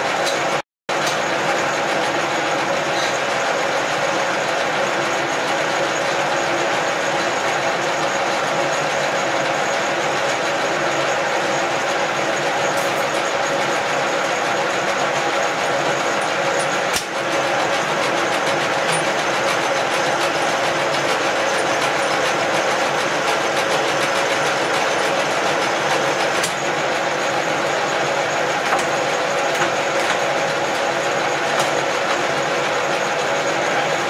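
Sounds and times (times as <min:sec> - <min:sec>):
milling machine clatter: 0:00.0 - 0:34.0.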